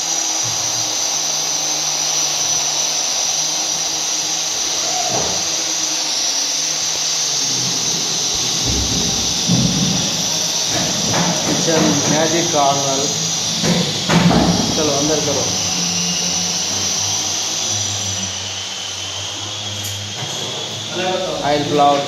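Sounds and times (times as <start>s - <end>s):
machine high-pitched hiss: 0.0s - 22.0s.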